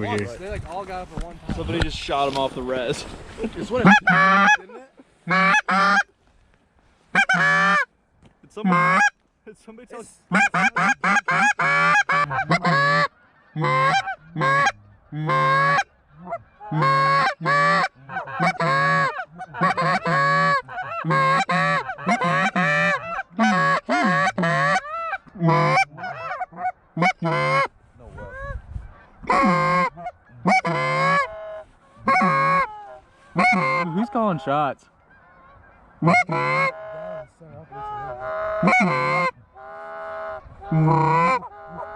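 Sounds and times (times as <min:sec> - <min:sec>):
goose call honks and clucks: 0:03.7 - 0:06.1, 0:07.1 - 0:07.9, 0:08.5 - 0:09.2, 0:10.2 - 0:41.9.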